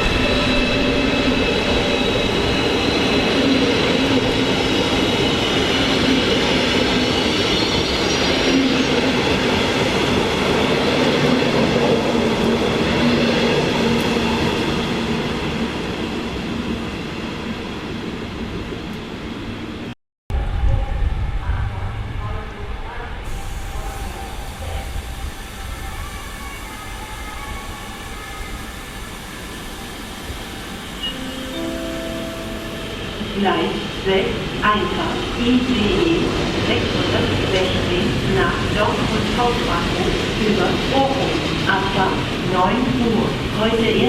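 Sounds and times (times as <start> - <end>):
passenger train rumbling: 0.0 - 44.0.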